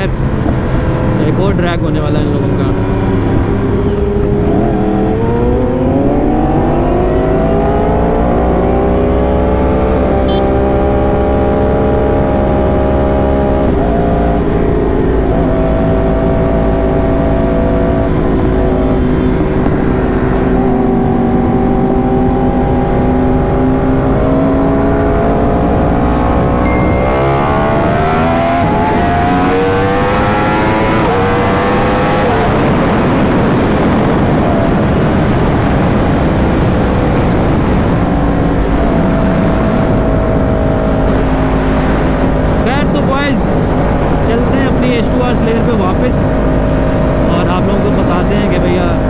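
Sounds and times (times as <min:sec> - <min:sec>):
motorcycle engine at high revs: 0:00.0 - 0:49.0.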